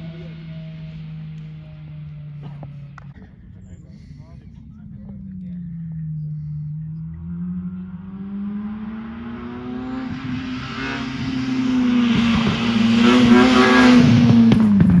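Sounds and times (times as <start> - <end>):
car engine approaching: 0.0 - 15.0.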